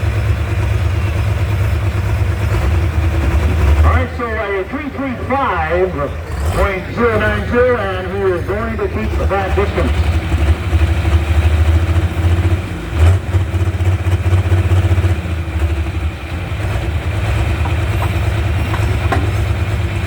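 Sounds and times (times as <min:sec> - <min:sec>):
tractor engine rumbling: 0:00.0 - 0:20.0.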